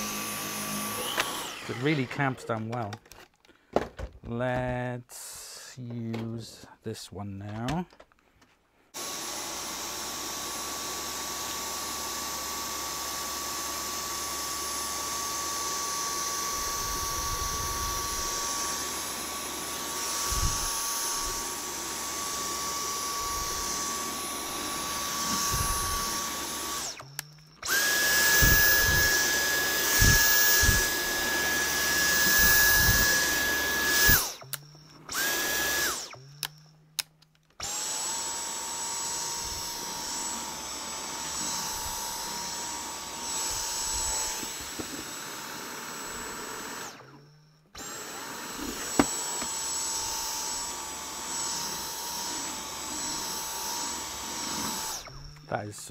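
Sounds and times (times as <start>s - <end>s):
cordless vacuum whining: 0.0s - 4.0s, 8.9s - 55.9s.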